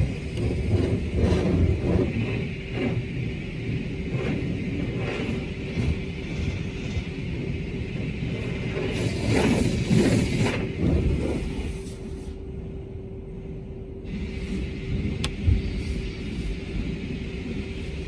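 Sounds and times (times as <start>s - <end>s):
low rumble and hum: 0.0s - 18.0s.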